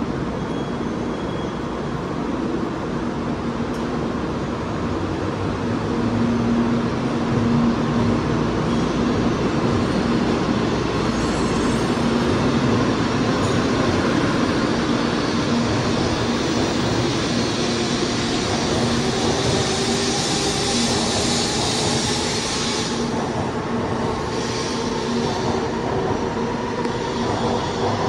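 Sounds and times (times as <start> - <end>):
train motors and wheels humming: 0.0 - 28.0.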